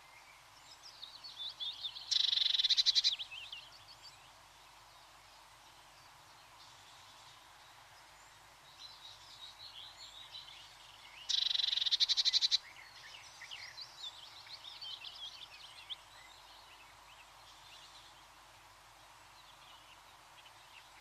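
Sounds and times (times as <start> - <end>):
birds chirping: 0.0 - 5.2, 6.0 - 18.3.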